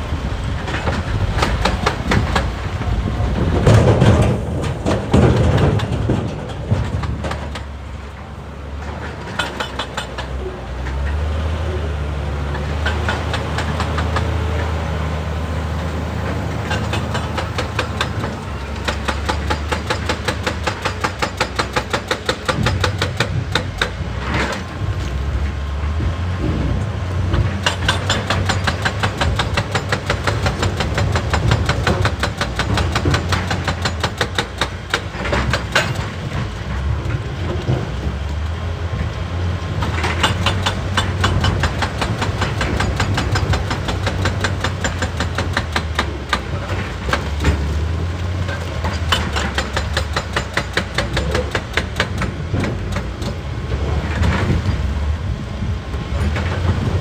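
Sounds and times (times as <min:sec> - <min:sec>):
excavator diesel engine running: 0:00.0 - 0:57.0
hydraulic rock breaker pounding stone: 0:00.0 - 0:57.0.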